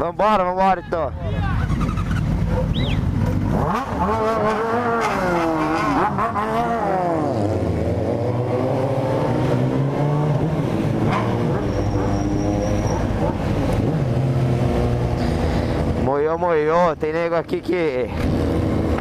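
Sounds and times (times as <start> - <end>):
motorcycle engine accelerating: 1.6 - 16.0, 18.1 - 19.0.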